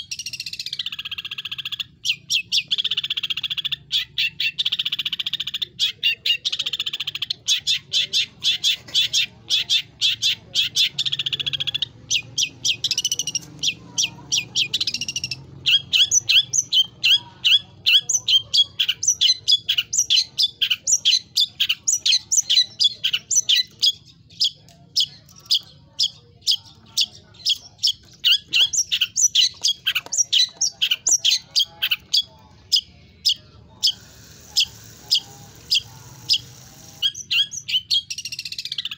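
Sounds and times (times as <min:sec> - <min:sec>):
shrike singing: 0:00.0 - 0:38.9.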